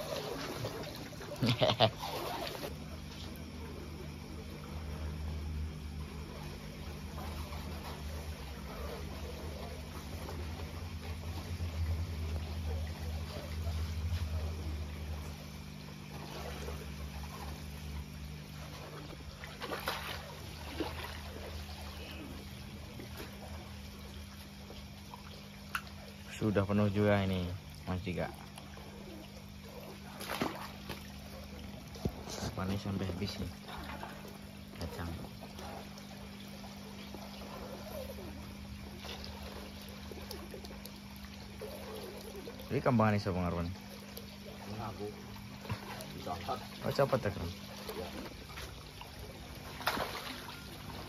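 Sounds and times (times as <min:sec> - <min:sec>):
fish splashing in water: 0:00.0 - 0:51.0
steady low hum: 0:00.0 - 0:51.0.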